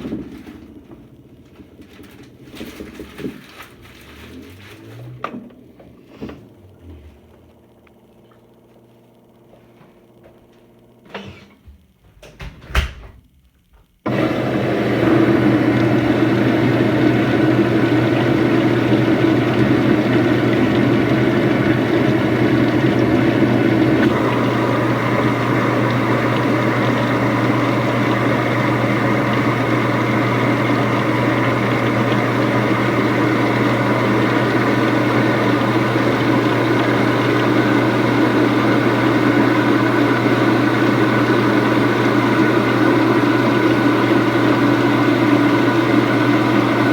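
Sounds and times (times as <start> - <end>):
water rushing into washing machine: 0.0 - 7.5, 14.0 - 46.9
low machine hum: 0.0 - 12.4, 13.5 - 46.9.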